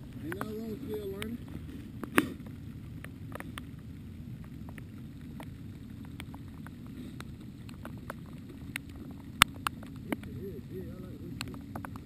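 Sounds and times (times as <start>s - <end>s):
raindrops ticking on camera: 0.0s - 12.0s.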